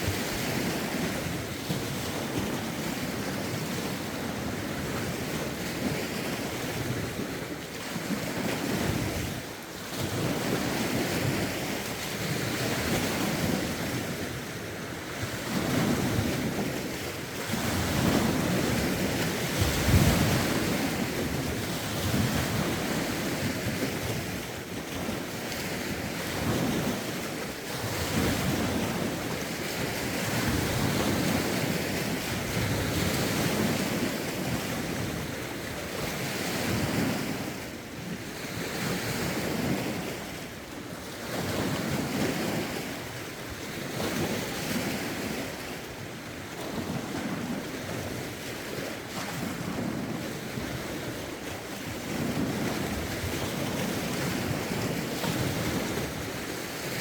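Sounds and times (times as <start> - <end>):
lake waves washing onto shore: 0.0 - 57.0
wind buffeting microphone: 0.0 - 57.0.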